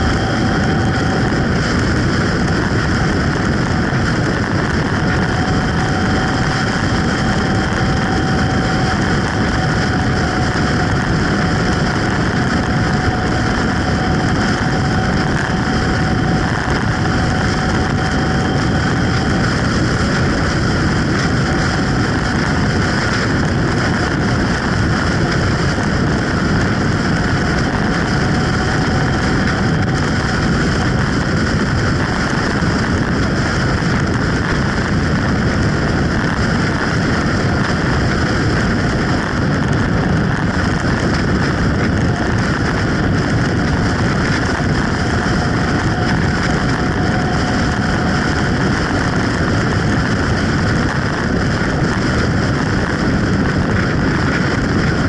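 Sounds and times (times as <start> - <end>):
motorcycle engine running: 0.0 - 55.0
road noise: 0.0 - 55.0
wind on microphone: 0.0 - 55.0.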